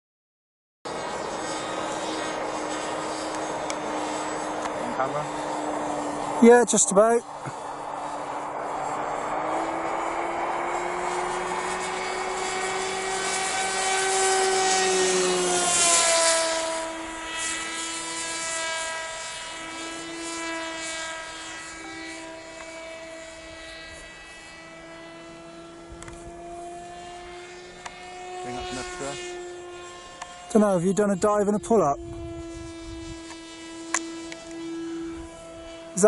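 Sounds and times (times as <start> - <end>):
model plane motor flying past: 0.9 - 36.0.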